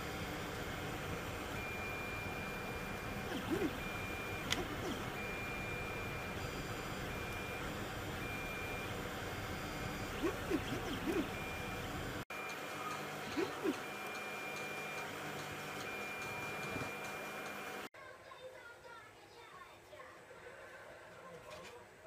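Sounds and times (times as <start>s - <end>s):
rising and falling whirs: 0.0s - 17.9s
stepper motor whine: 0.0s - 17.9s.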